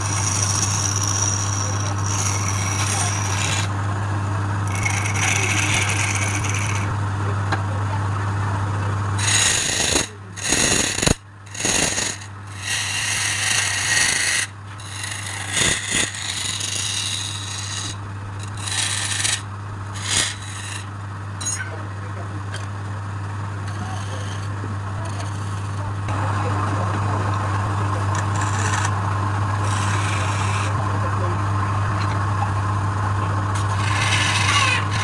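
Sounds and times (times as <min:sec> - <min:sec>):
tool scraping spinning wood: 0:00.0 - 0:07.5, 0:09.0 - 0:35.0
wood lathe humming: 0:00.0 - 0:35.0.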